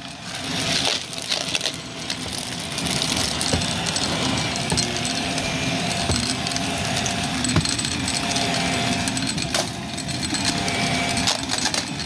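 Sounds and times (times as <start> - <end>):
vacuum cleaner motor drone: 0.0 - 12.0.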